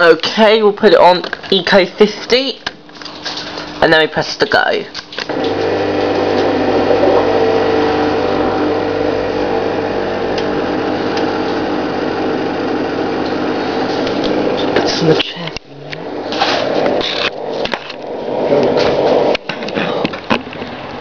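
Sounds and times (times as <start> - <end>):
dishwasher pump humming: 1.6 - 21.0.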